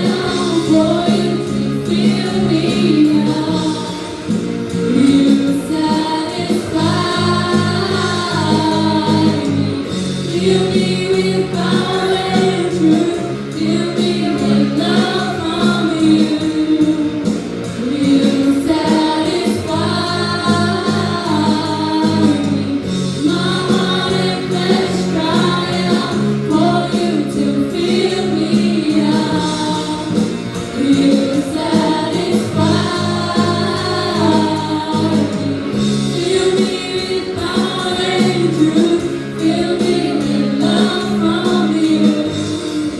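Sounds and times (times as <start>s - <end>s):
bass and drums: 0.0s - 42.9s
children singing worship song: 0.0s - 42.9s.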